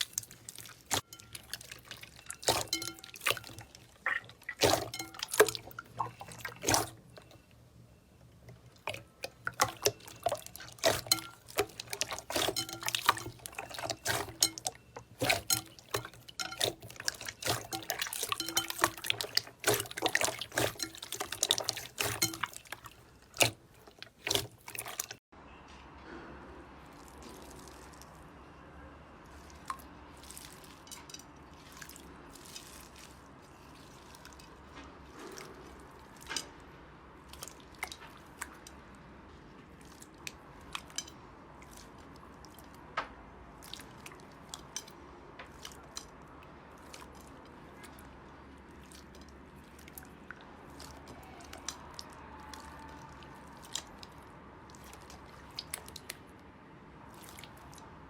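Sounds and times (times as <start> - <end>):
slime squishing: 0.0 - 25.3, 26.8 - 28.4, 29.2 - 58.0.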